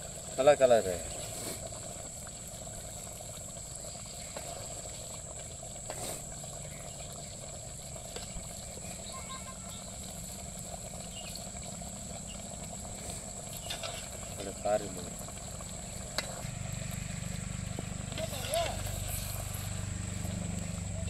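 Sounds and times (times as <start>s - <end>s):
curry simmering in a pot: 0.0s - 21.0s.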